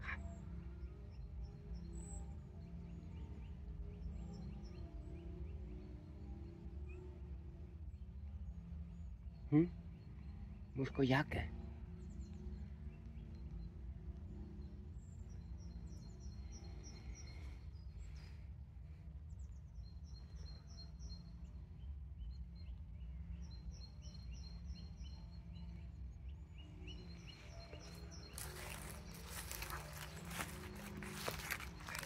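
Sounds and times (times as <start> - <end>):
low outdoor rumble: 0.0 - 32.0
songbird chirping: 0.0 - 32.0.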